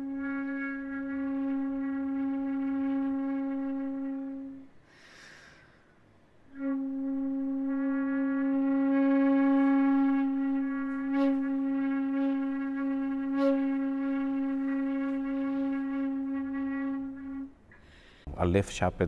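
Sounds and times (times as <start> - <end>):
long held wind instrument note: 0.0 - 4.9, 6.5 - 17.6.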